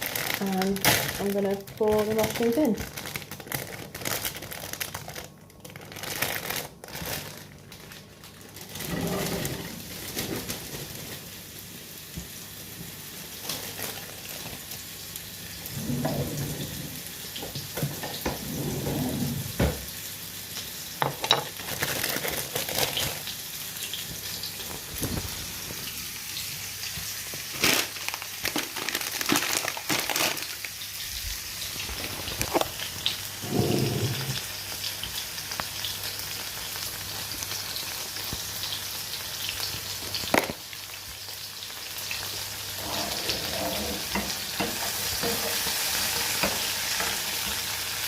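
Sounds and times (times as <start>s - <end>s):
mushrooms sizzling in oil: 0.0s - 3.5s, 7.4s - 18.7s, 19.4s - 48.0s.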